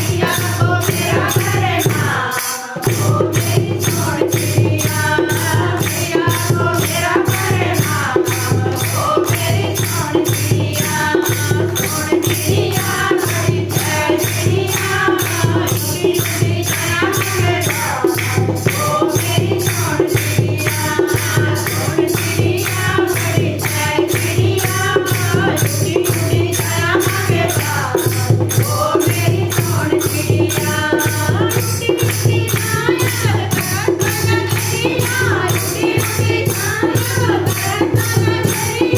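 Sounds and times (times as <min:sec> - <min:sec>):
group of voices singing: 0:00.0 - 0:38.9
jingling percussion beat: 0:00.0 - 0:38.9.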